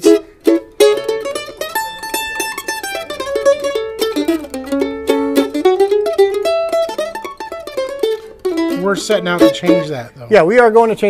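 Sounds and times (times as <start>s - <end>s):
mandolin plucked melody: 0.0s - 10.6s.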